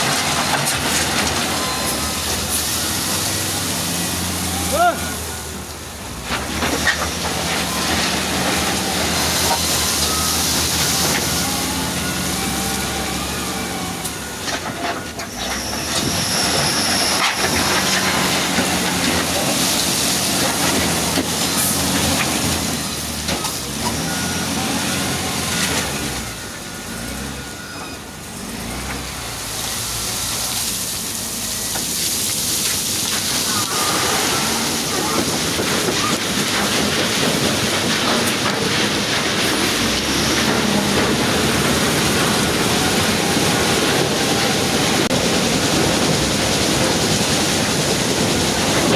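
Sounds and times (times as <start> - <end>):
diesel engine under load: 0.0 - 48.9.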